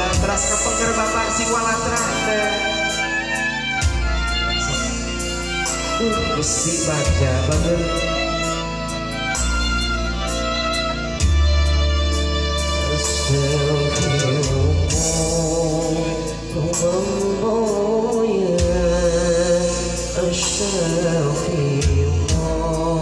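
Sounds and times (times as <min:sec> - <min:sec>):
steady bass line: 0:00.0 - 0:23.0.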